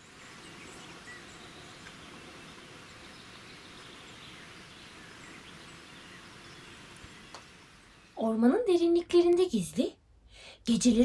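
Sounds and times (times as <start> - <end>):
outdoor field ambience hiss: 0.0 - 11.0.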